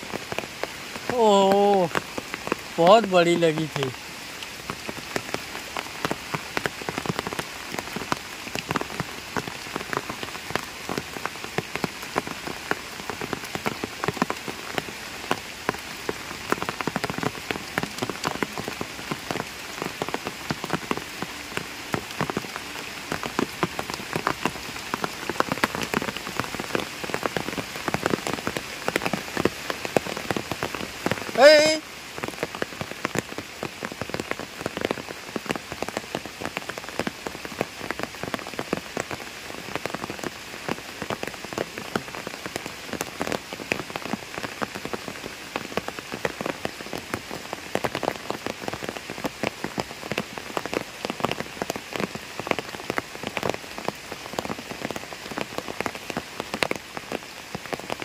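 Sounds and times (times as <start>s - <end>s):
rain falling on pond: 0.0s - 58.0s.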